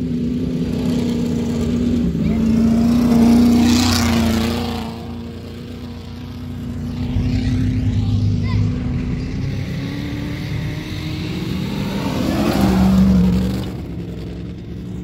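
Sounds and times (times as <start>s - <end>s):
steady engine drone: 0.0s - 15.0s
race car passing by: 0.8s - 15.0s.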